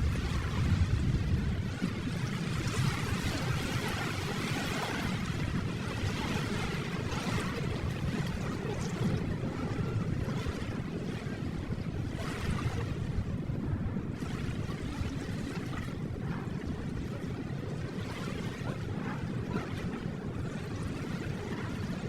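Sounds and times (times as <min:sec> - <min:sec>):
ocean surf rumbling: 0:00.0 - 0:22.0.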